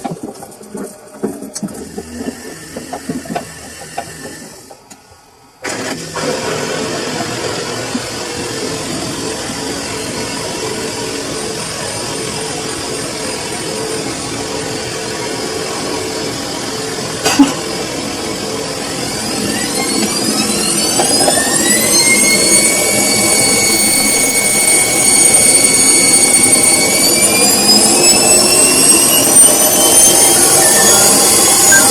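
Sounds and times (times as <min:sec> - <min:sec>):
washing machine motor whine: 0:00.0 - 0:04.9, 0:05.6 - 0:31.9.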